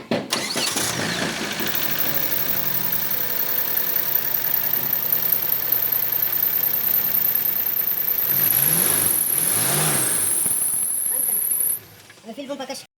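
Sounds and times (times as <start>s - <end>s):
car engine starting and idling: 0.3s - 12.2s.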